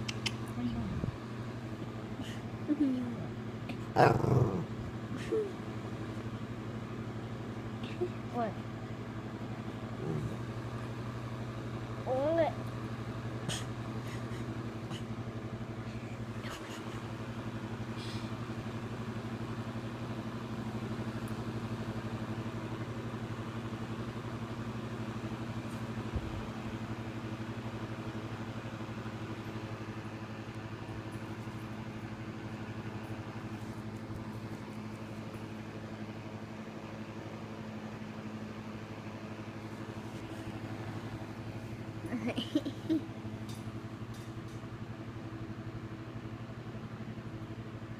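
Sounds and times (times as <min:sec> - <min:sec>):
low machine hum: 0:00.0 - 0:47.9.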